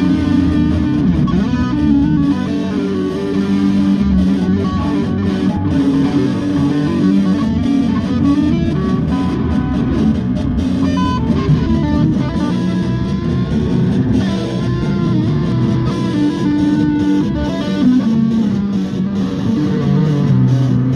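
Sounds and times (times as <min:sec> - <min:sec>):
bass: 0:00.0 - 0:20.9
guitar lines: 0:00.0 - 0:20.9.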